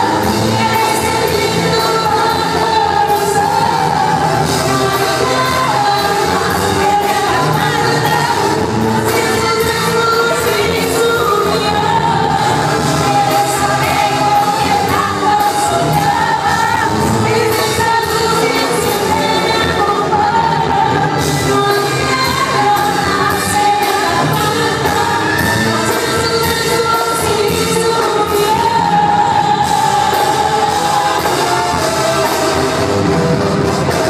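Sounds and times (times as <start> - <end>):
woman singing lead vocal: 0.0 - 32.9
band with brass and percussion: 0.0 - 34.0.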